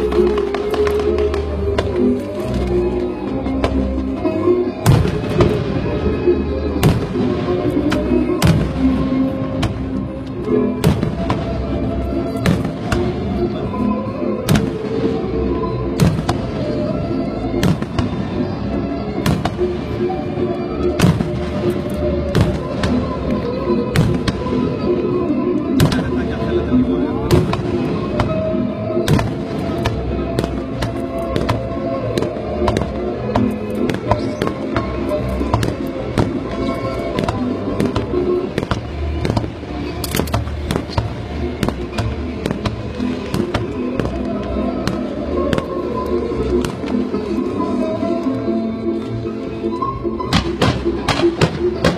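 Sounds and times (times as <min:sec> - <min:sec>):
fireworks exploding: 0:00.0 - 0:26.6, 0:27.2 - 0:47.8, 0:50.2 - 0:51.9
music playing: 0:00.0 - 0:51.9.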